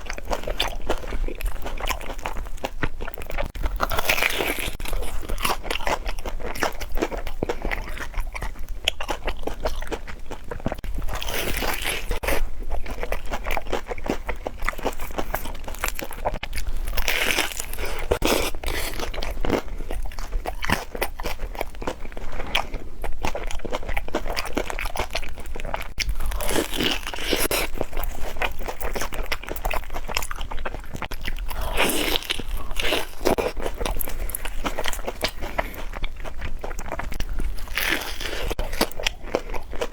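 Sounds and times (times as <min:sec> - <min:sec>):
crunching and chewing fried food: 0:00.0 - 0:39.9.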